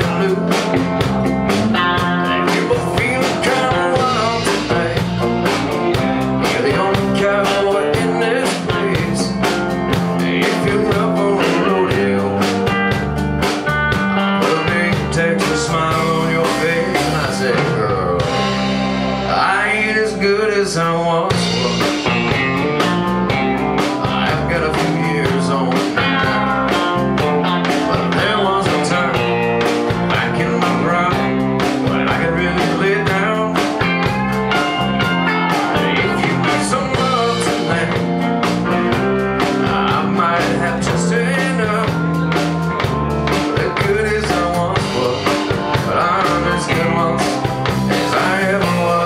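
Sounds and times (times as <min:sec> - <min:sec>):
country band playing: 0:00.0 - 0:49.0
steady drum beat: 0:00.0 - 0:49.0.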